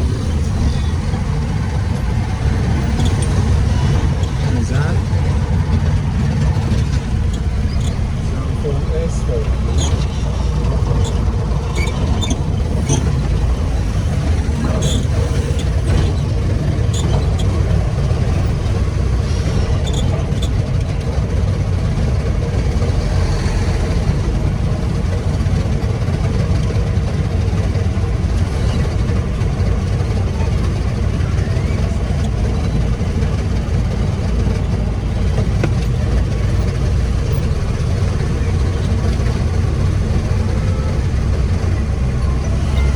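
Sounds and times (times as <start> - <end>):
truck engine rumbling: 0.0 - 42.9.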